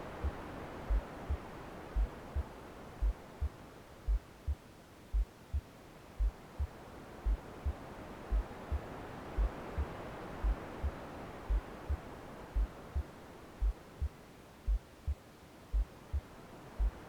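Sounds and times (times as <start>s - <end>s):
hushed white noise: 0.0s - 17.0s
soft heartbeat thumps: 0.0s - 17.0s.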